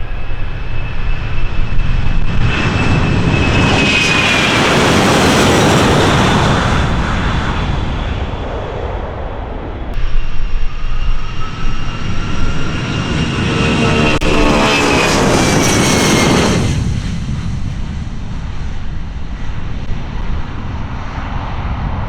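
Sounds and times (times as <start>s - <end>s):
gusty jet rumble: 0.0s - 22.0s
jet airliner engines with high whine: 0.0s - 22.0s.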